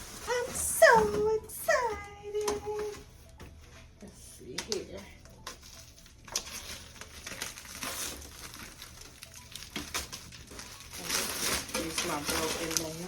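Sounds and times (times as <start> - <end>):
packaging rustling: 0.0 - 3.1, 5.3 - 13.0.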